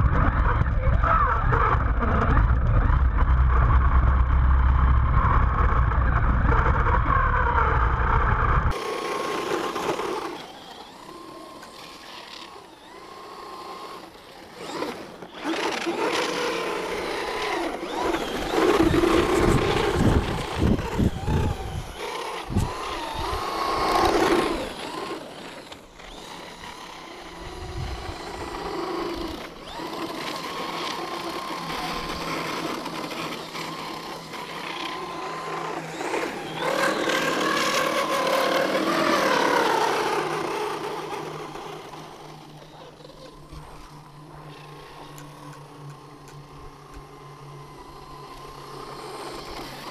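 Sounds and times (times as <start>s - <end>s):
electric toy truck motor whining: 0.0s - 49.9s.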